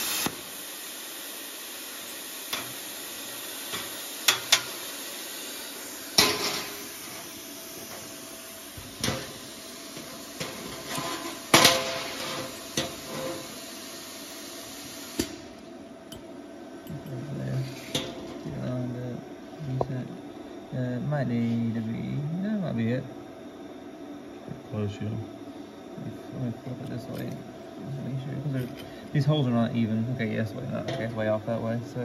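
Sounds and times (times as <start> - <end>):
steady hiss: 0.0 - 23.2, 24.4 - 32.0.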